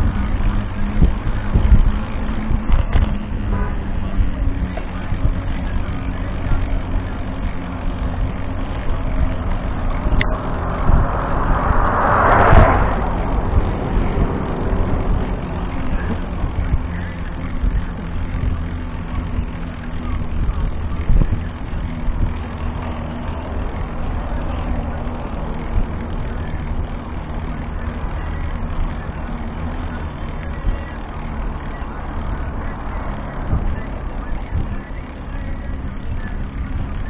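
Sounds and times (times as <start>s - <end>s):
road noise: 0.0s - 37.0s
vehicle engine drone: 0.0s - 37.0s
vehicle bump: 0.7s - 37.0s.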